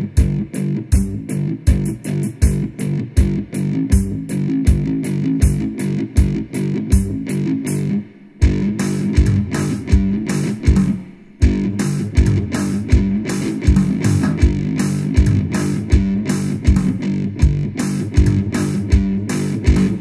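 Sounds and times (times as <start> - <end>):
slide guitar riff: 0.0 - 20.0.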